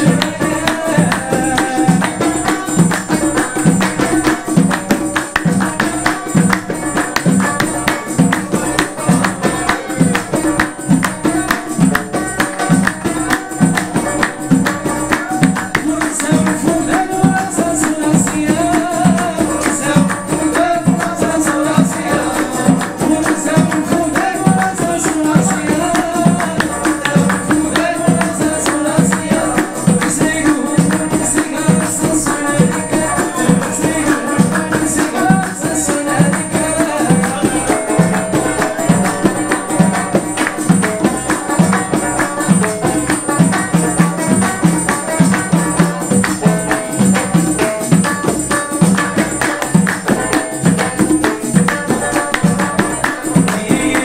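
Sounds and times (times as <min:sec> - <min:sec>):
banjo and keyboard melody: 0:00.0 - 0:54.0
frame drums beating: 0:00.0 - 0:54.0.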